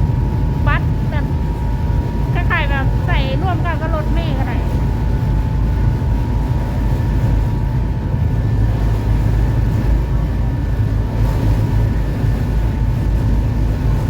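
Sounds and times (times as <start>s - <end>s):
faint constant whine: 0.0s - 14.0s
ferry low rumble: 0.0s - 14.0s.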